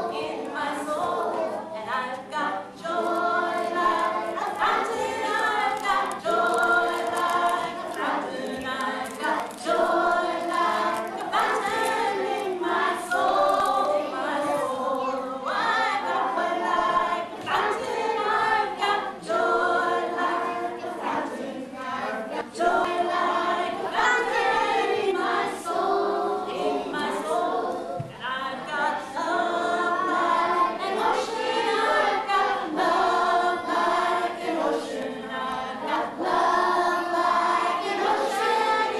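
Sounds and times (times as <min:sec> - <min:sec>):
children singing together: 0:00.0 - 0:38.9
woman leading singing: 0:00.0 - 0:38.9.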